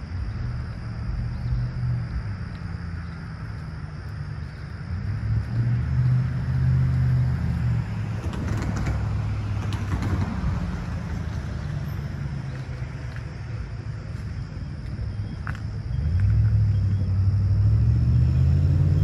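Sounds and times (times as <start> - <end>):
vehicle engine hum in traffic: 0.0 - 19.0.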